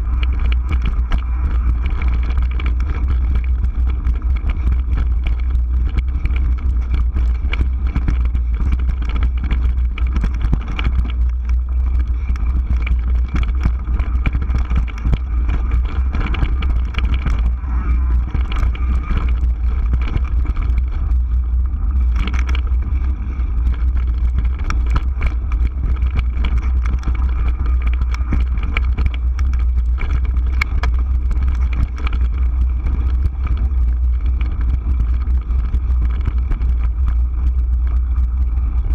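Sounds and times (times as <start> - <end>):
bike clicks and rattles: 0.0 - 38.9
sharp clatter: 0.0 - 38.9
wind rumble on microphone: 0.0 - 38.9.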